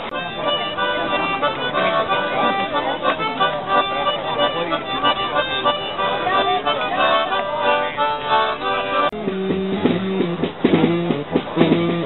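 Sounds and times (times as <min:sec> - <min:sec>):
reedy instrument tune: 0:00.0 - 0:12.0
music with repeated low notes: 0:00.1 - 0:12.0.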